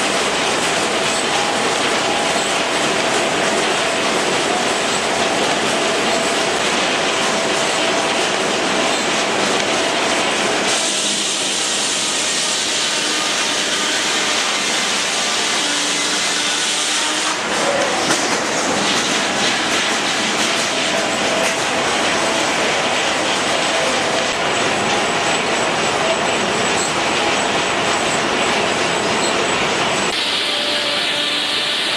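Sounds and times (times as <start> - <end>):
steam engine running: 0.0 - 31.9.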